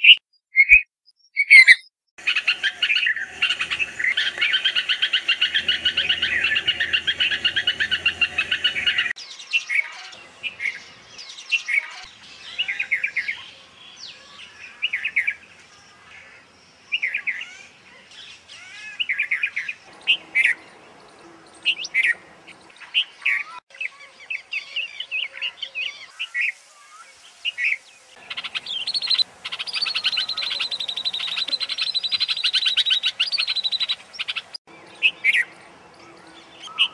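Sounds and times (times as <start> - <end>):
bulbuls chattering and whistling: 0.0 - 15.4, 17.0 - 36.9.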